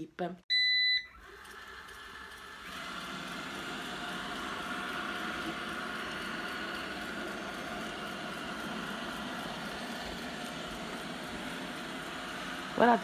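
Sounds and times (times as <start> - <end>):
robot vacuum cleaner whirring: 1.1 - 13.0.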